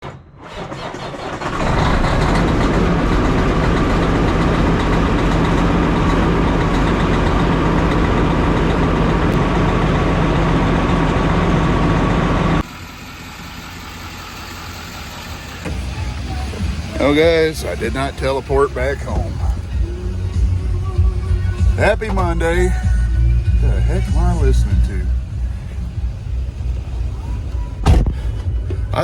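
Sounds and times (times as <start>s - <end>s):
loud truck engine running: 0.2s - 29.0s.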